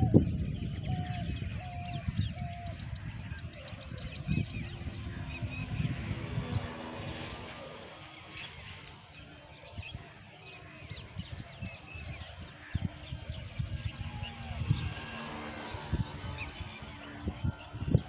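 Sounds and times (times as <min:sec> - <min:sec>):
wind buffeting microphone: 0:00.0 - 0:18.0
small birds chirping: 0:00.1 - 0:18.0.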